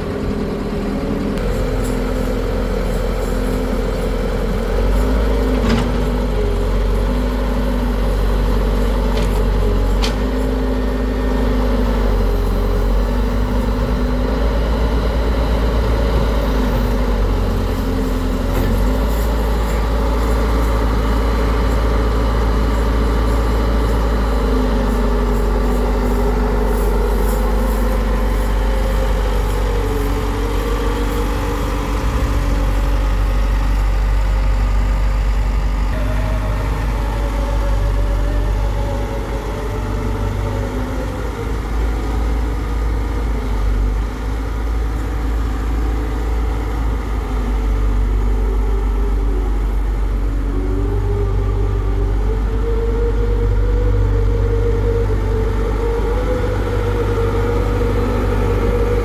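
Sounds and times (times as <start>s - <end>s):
diesel engine rumbling: 0.0s - 59.0s
engine whine: 0.0s - 59.0s.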